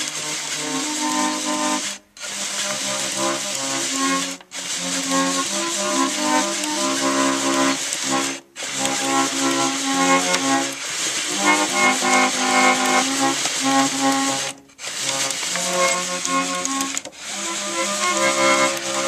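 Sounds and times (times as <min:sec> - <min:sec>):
player organ playing chords: 0:00.0 - 0:19.0.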